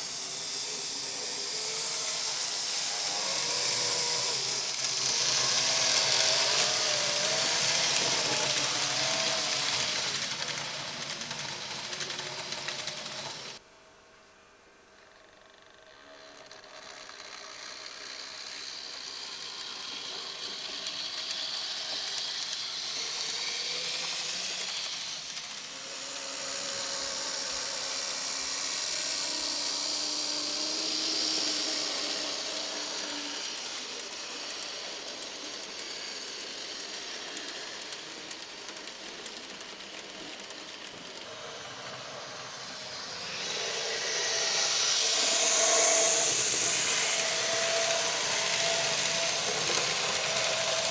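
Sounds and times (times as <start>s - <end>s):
model trains whirring on rails: 0.0s - 50.9s.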